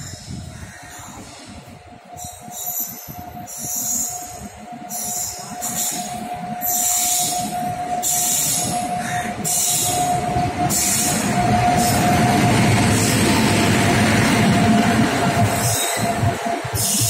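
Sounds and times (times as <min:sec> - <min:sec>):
wheels rumbling on rails: 0:00.0 - 0:17.0
locomotive high whine: 0:01.4 - 0:17.0.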